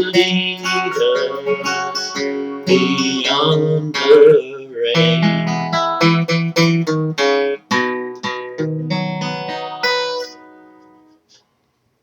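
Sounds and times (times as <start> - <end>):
guitar strumming chords: 0.0 - 11.2.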